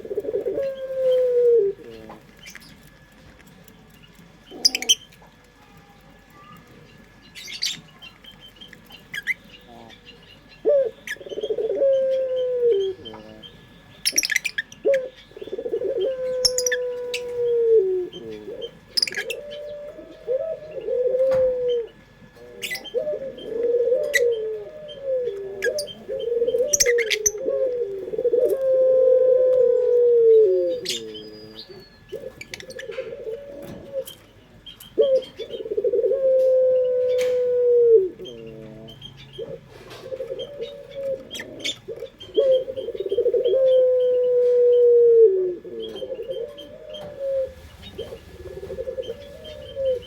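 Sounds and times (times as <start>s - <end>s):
doves cooing: 0.0s - 50.0s.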